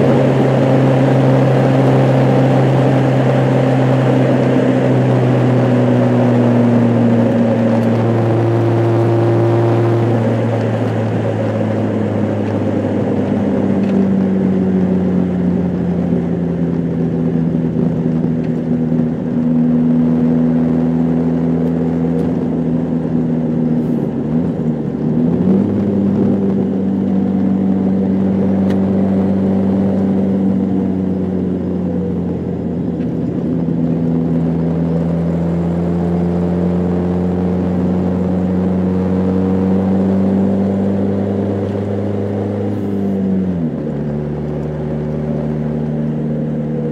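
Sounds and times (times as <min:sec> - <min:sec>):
car engine: 0:00.0 - 0:46.9
road noise inside car: 0:00.0 - 0:46.9.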